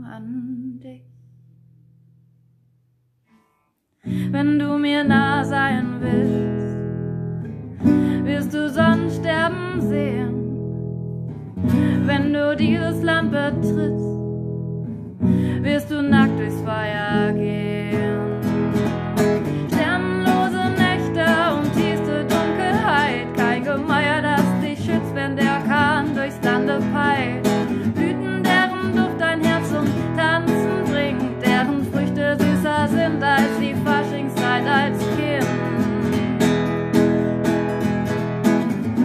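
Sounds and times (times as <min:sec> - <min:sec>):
woman singing: 0:00.0 - 0:01.1, 0:04.0 - 0:07.0, 0:07.8 - 0:10.9, 0:11.6 - 0:14.3, 0:15.2 - 0:36.9
acoustic guitar strumming: 0:05.1 - 0:39.0.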